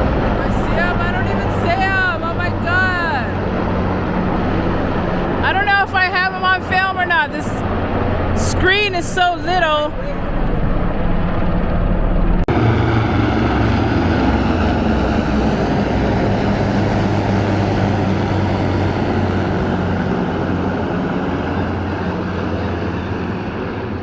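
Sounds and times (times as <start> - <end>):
engine drone with low hum: 0.0 - 24.0.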